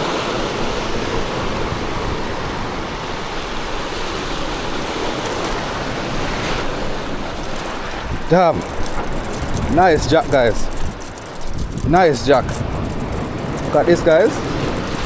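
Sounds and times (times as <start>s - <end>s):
sea surf rushing: 0.0s - 15.0s
wind on microphone: 0.0s - 15.0s.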